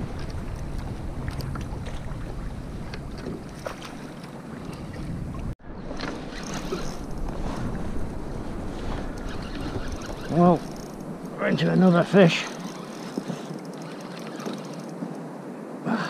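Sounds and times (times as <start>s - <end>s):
small waves lapping: 0.0s - 15.4s
wind buffeting microphone: 0.0s - 15.8s.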